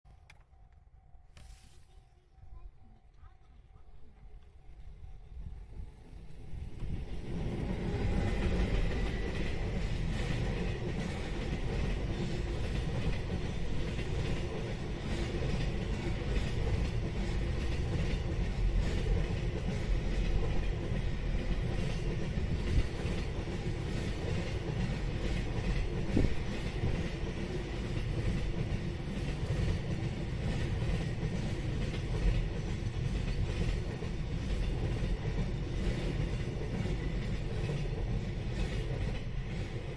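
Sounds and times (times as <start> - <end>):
train rumbling past: 3.5 - 39.9.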